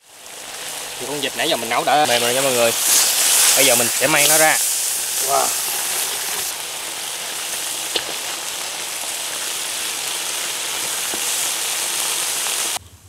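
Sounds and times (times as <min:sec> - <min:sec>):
sauce sizzling in a wok: 0:00.0 - 0:12.8.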